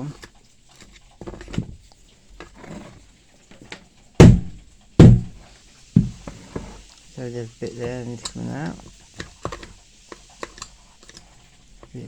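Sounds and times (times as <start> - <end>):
screwdriver scraping grass: 0.0 - 3.8, 6.0 - 12.0.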